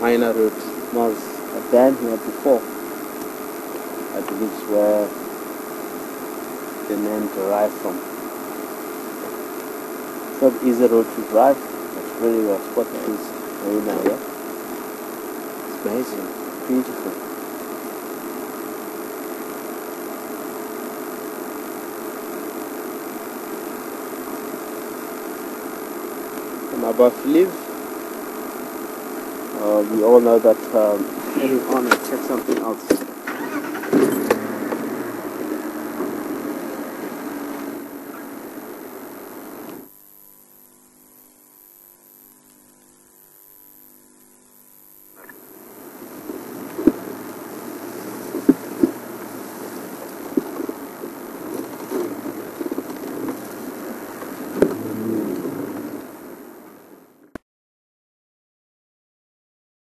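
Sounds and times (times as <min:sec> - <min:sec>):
faint electrical hum: 0:00.0 - 0:57.2.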